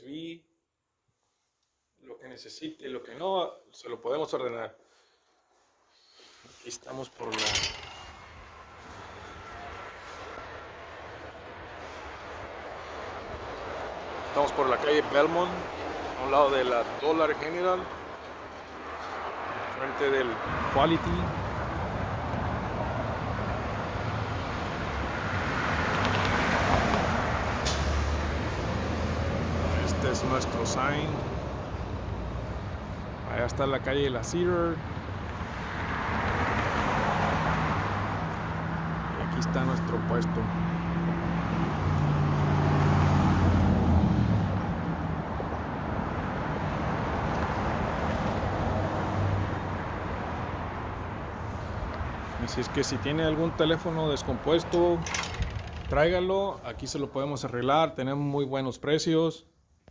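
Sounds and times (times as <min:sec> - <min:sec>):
road traffic rumble: 0:04.8 - 0:57.9.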